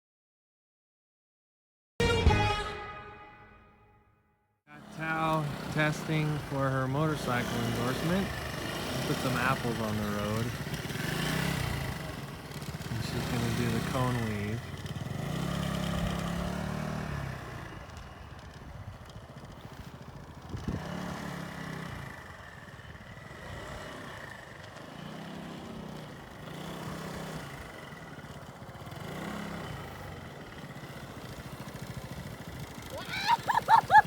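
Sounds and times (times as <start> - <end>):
motorcycle engine revving: 4.7 - 34.0.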